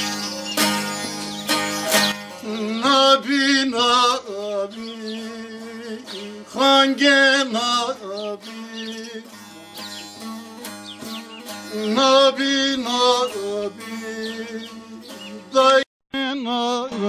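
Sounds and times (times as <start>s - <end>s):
plucked string instrument strumming: 0.0s - 15.8s
ornamented folk melody: 0.0s - 17.0s.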